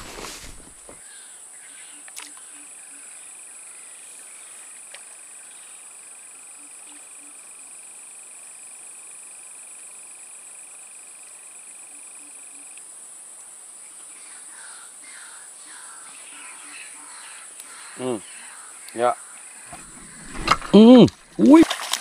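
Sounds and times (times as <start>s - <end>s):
high insect drone: 0.0s - 21.6s.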